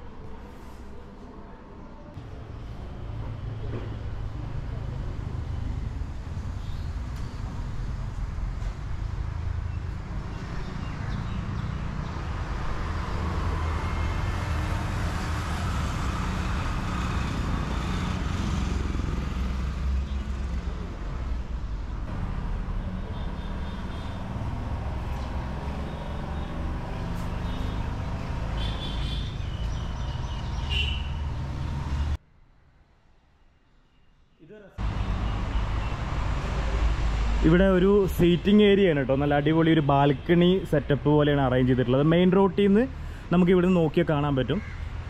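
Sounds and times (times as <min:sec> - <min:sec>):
cars passing on road: 0:02.2 - 0:32.2, 0:34.8 - 0:45.0.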